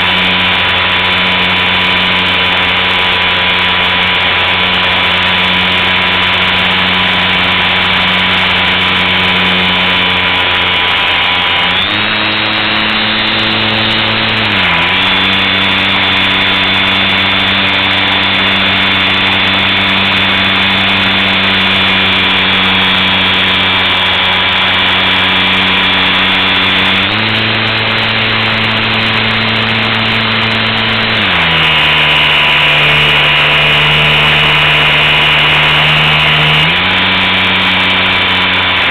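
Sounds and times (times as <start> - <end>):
model plane motor and propeller: 0.0 - 38.9.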